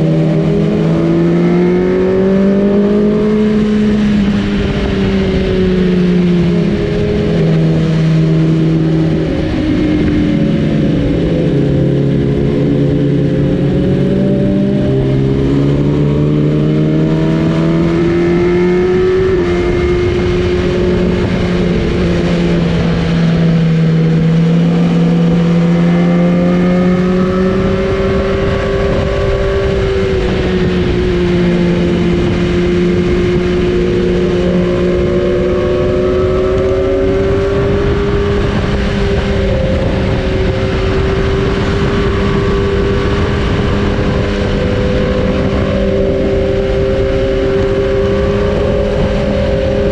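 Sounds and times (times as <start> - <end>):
motorcycle engines running: 0.0 - 49.9
wind rush: 0.0 - 49.9.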